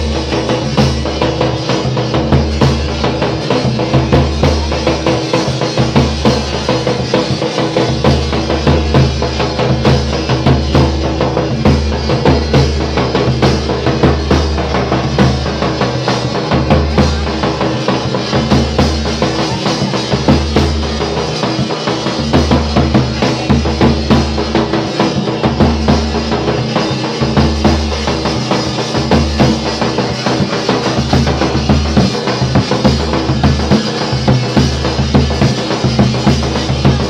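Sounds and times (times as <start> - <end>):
dhol drum beating: 0.0 - 37.0.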